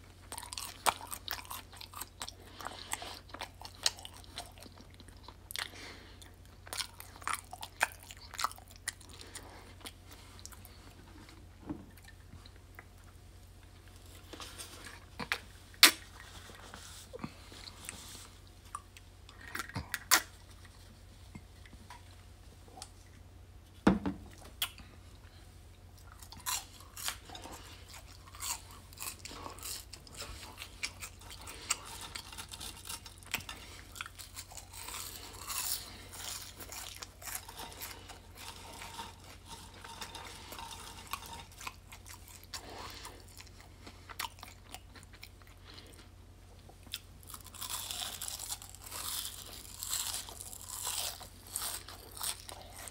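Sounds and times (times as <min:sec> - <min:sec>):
person chewing crunchy food: 0:00.0 - 0:23.2, 0:24.3 - 0:52.9.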